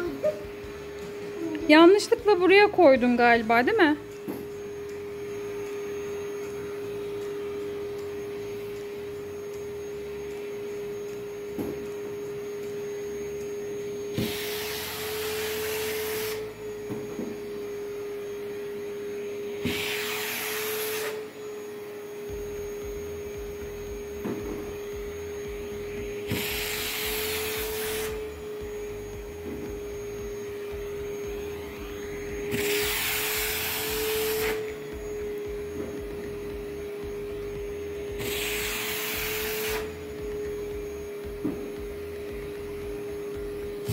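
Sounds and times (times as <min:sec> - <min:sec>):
toy vacuum cleaner motor hum: 0:00.0 - 0:43.9.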